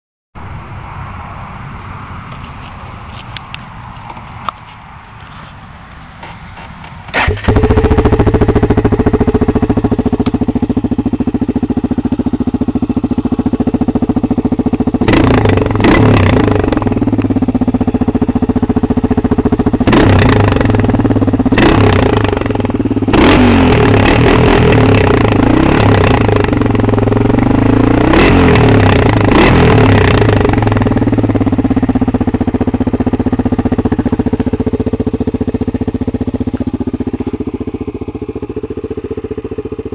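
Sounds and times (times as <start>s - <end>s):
atv engine revving: 6.2s - 39.9s.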